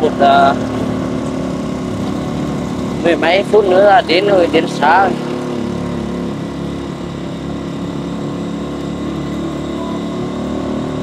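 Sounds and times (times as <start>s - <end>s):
road noise: 0.0s - 11.0s
small motorbike engine running: 0.0s - 11.0s.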